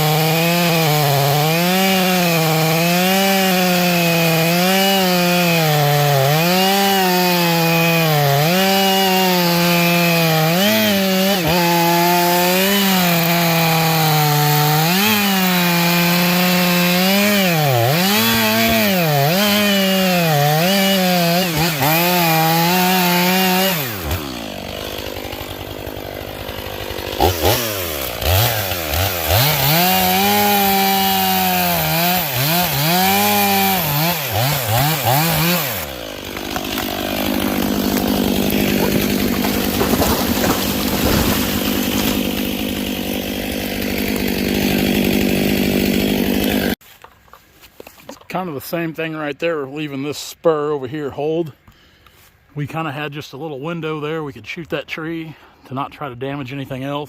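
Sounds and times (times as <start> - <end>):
chainsaw cutting at full throttle: 0.0 - 46.8.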